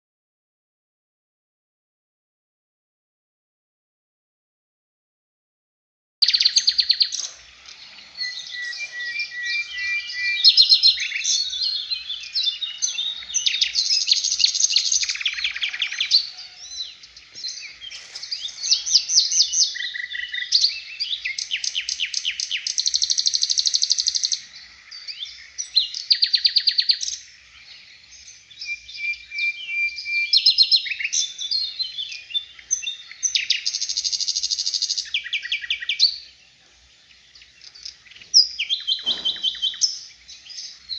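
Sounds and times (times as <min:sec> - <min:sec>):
songbird singing rapid trills: 0:06.2 - 0:40.9.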